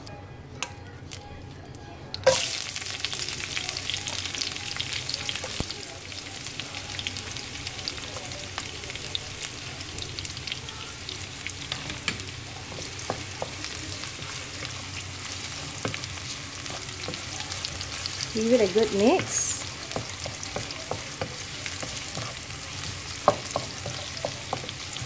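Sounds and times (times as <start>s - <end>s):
onions sizzling in oil: 2.2s - 25.0s.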